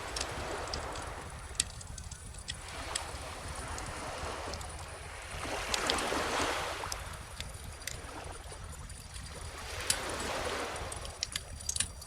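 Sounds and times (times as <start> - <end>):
bonfire crackle: 0.0 - 12.0.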